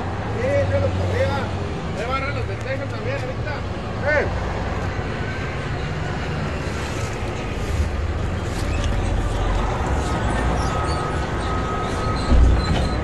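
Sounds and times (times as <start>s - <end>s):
street noise rush: 0.0s - 13.0s.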